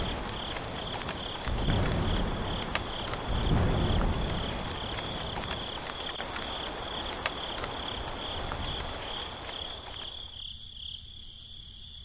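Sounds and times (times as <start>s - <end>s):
steady rain: 0.0s - 11.0s
crickets chirping: 0.0s - 12.0s.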